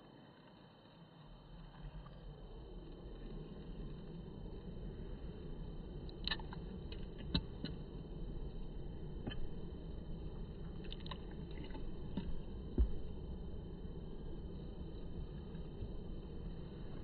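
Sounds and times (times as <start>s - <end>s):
faint drips and ticks: 1.6s - 17.0s.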